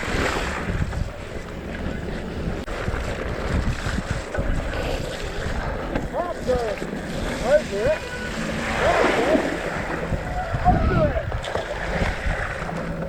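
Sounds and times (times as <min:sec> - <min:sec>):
bike riding rumble and knocks: 0:00.0 - 0:13.0
wind buffeting microphone: 0:00.0 - 0:13.0.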